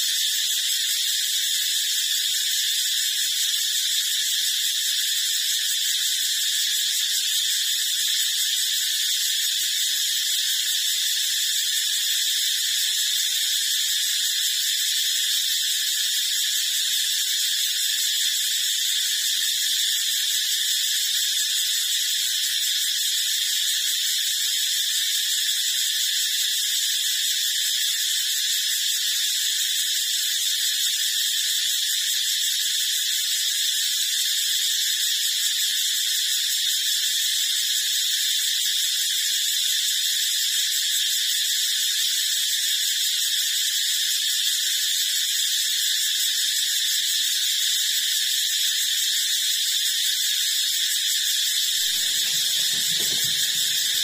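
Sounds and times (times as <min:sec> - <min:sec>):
steady high-pitched hiss: 0:00.0 - 0:54.0.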